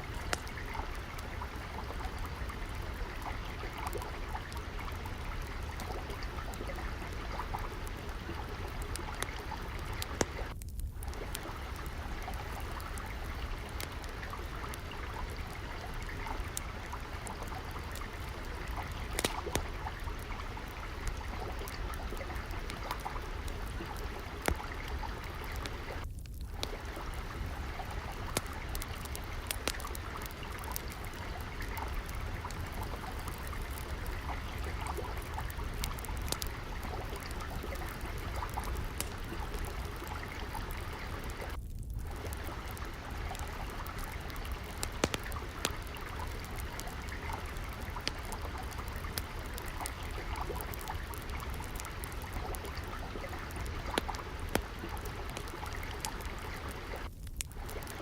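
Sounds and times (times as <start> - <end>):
water trickling and flowing: 0.0 - 58.0
wood fire crackling: 0.0 - 58.0.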